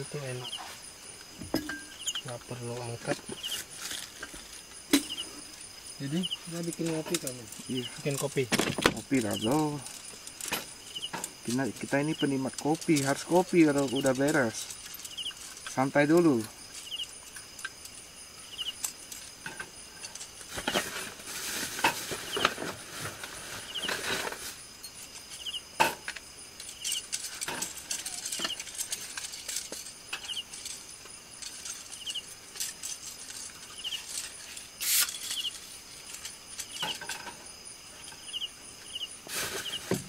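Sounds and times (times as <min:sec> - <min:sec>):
camping gear being handled: 0:00.0 - 0:40.0
insects buzzing: 0:00.0 - 0:40.0
pulsed cricket chirp: 0:00.0 - 0:40.0.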